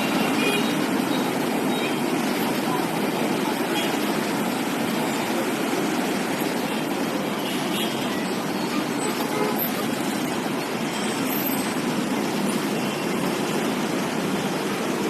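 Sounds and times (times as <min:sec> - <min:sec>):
motorbike and scooter traffic: 0:00.0 - 0:15.0.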